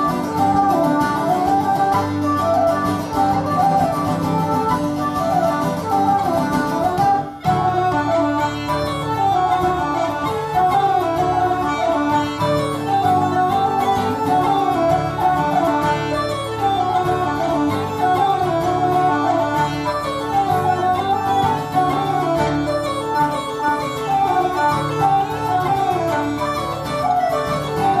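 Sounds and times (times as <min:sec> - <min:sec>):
bagpipes: 0:00.0 - 0:28.0
plucked strings: 0:00.0 - 0:28.0
strummed acoustic guitar: 0:00.0 - 0:28.0
whistle melody: 0:00.0 - 0:28.0.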